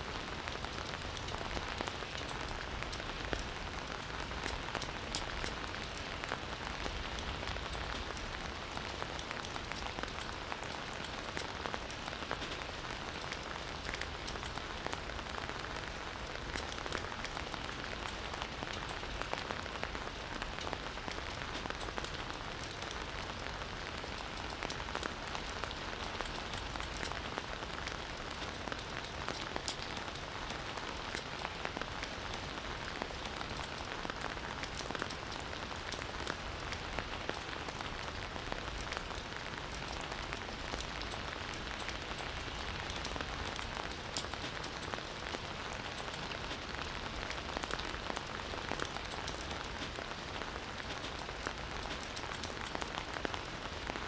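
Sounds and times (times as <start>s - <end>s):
campfire crackling and hissing: 0.0s - 54.0s.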